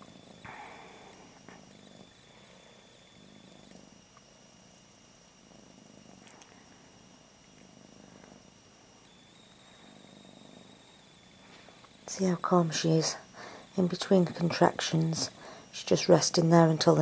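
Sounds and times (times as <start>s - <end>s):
cat purring softly: 0.0s - 17.0s.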